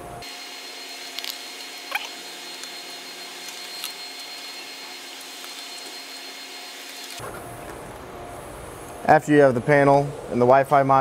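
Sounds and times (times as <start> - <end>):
whirring hum: 0.0 - 11.0.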